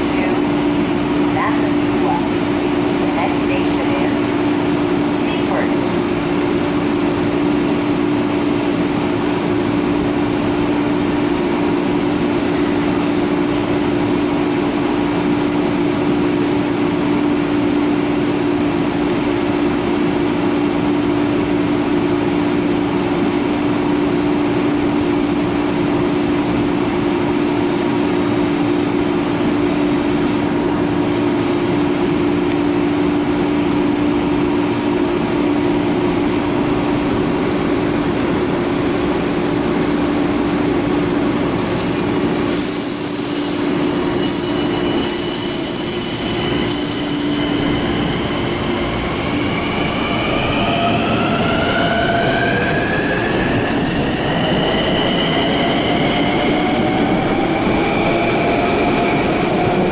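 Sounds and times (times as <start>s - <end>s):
train mechanical drone: 0.0s - 59.9s.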